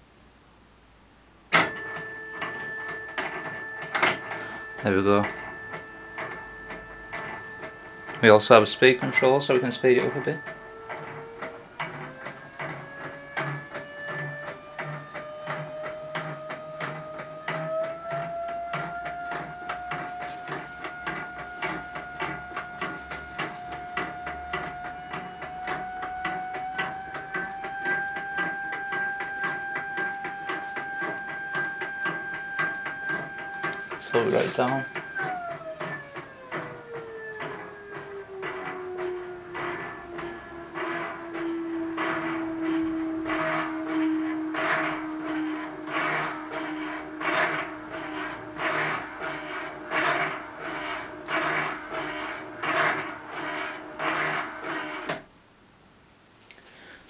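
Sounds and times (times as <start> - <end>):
stepper motor whine: 1.5 - 55.3
fast regular rattle: 1.6 - 55.3.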